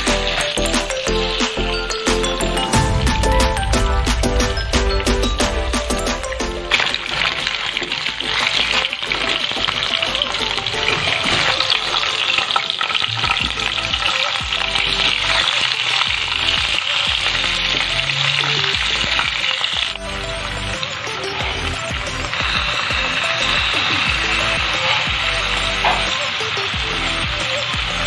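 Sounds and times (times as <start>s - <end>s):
oil sizzling in a frying pan: 0.0s - 28.0s.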